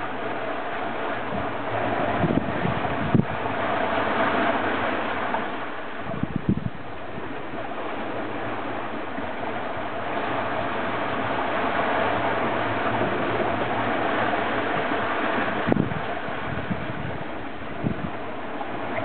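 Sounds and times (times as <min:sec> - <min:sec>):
water rushing along hull: 0:00.0 - 0:19.0
wind: 0:00.0 - 0:19.0.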